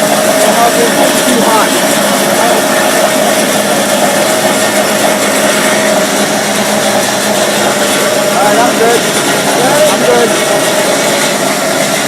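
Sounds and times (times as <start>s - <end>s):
engine droning at high revs: 0.0s - 12.0s.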